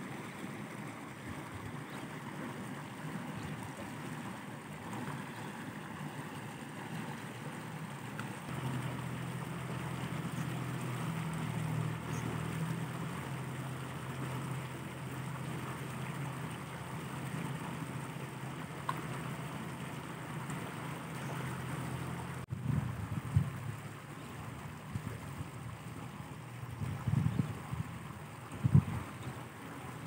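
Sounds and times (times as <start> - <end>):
low even hum: 0.0 - 30.0
outdoor background noise: 0.0 - 30.0.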